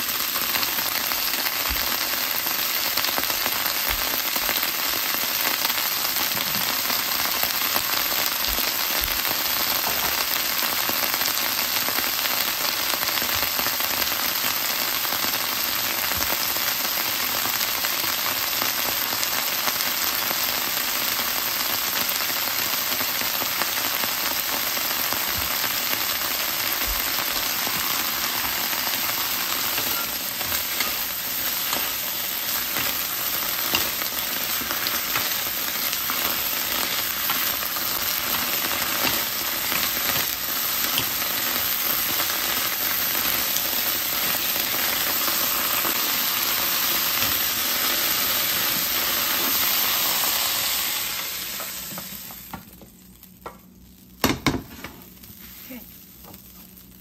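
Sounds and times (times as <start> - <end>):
vegetables sizzling in a pan: 0.0 - 57.0.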